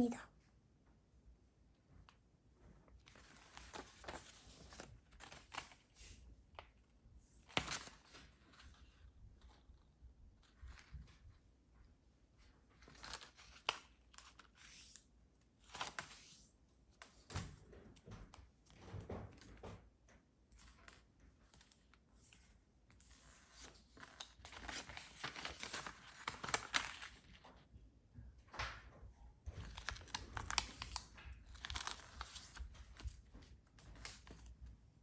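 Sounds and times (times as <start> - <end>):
paper rustling and crinkling: 2.0 - 11.4, 12.4 - 19.9, 20.5 - 27.7, 28.7 - 34.8.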